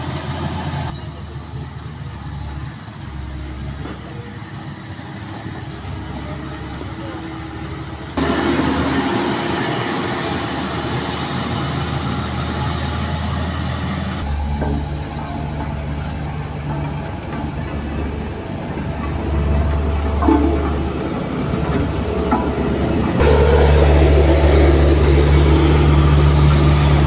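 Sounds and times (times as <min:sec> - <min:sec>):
engine running: 0:00.0 - 0:27.0
street noise: 0:00.0 - 0:27.0
machinery noise: 0:03.0 - 0:27.0.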